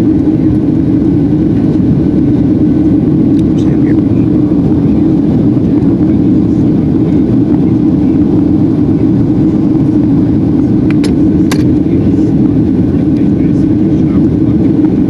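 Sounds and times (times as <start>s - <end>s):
jet engines roaring in cabin: 0.0s - 15.0s.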